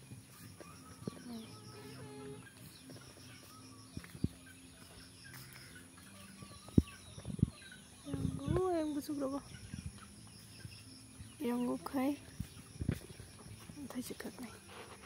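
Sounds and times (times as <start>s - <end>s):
faint bird calls and chirps: 0.0s - 15.0s.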